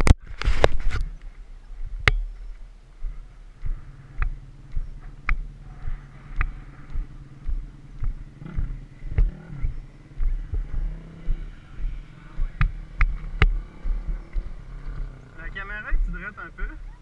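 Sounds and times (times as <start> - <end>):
steady engine hum: 0.0 - 17.0
footsteps on grass: 0.2 - 15.1
motorbike engine revving: 3.1 - 17.0.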